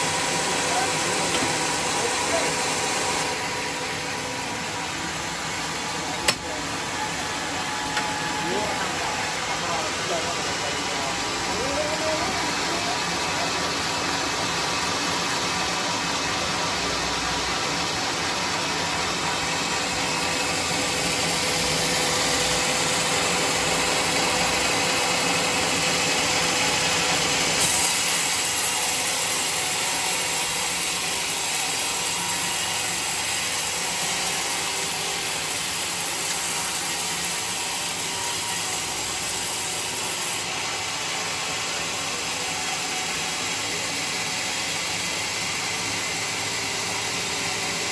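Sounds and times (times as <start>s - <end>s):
band sawmill cutting log: 0.0s - 47.9s.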